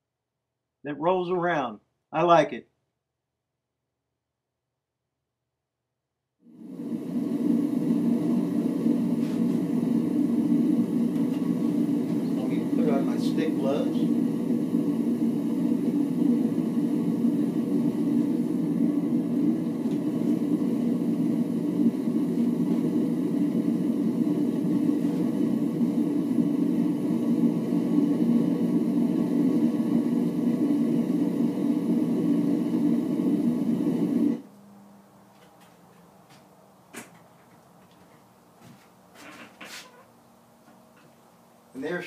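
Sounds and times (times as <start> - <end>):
gas burner roaring: 6.4 - 38.6, 39.2 - 42.0.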